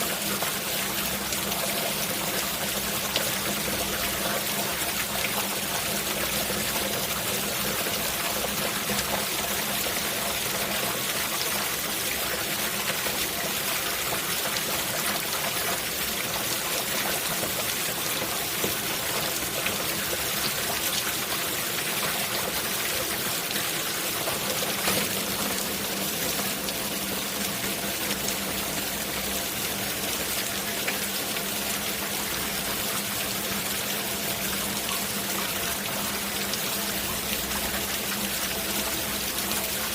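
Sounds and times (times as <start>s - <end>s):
steady rain falling: 0.0s - 39.9s
water trickling and pouring: 0.0s - 39.9s.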